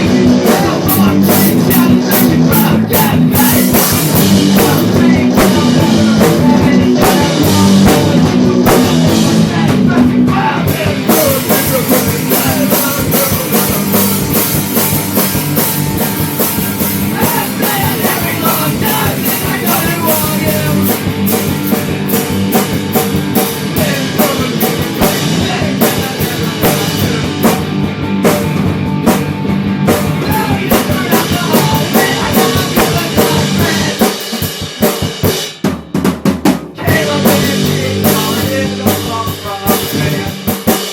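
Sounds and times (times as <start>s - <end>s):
guitar: 0.0s - 36.0s, 36.6s - 40.9s
drum kit: 0.0s - 40.9s
rock band playing: 0.0s - 40.9s.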